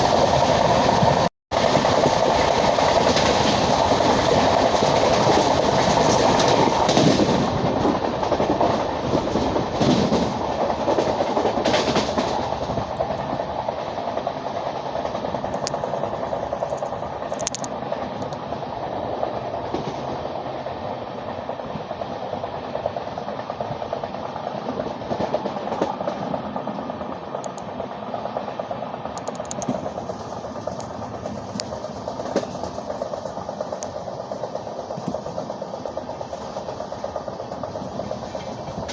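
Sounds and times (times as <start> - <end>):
train wheels on rails: 0.0 - 38.9.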